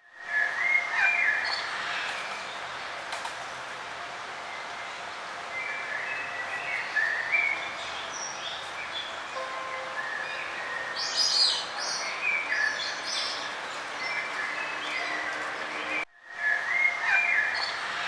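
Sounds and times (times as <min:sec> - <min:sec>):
steady outdoor ambience hiss: 0:00.0 - 0:18.0.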